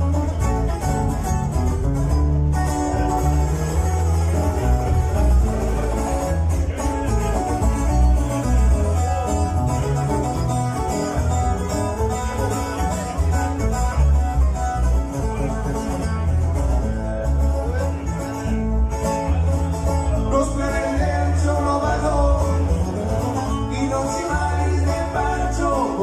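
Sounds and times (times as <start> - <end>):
acoustic guitars strumming: 0.0 - 26.0
deep bass notes: 0.0 - 26.0.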